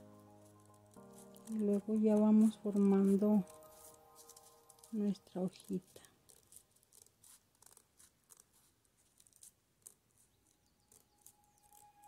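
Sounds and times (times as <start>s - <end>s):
scissors cutting paper: 0.4s - 12.0s.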